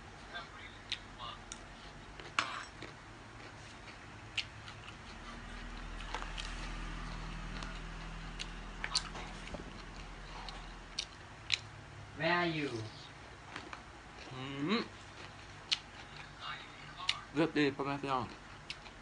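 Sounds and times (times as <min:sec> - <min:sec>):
low steady hum: 0:00.0 - 0:19.0
person chewing food: 0:00.8 - 0:11.7, 0:13.2 - 0:17.3, 0:18.2 - 0:19.0.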